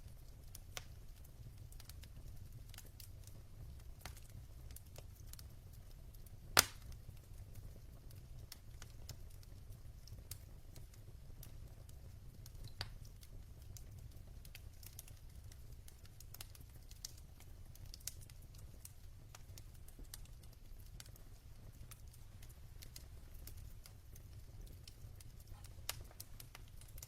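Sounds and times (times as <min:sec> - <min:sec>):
log fire crackling: 0:00.0 - 0:27.0
low fire rumble: 0:00.0 - 0:27.0.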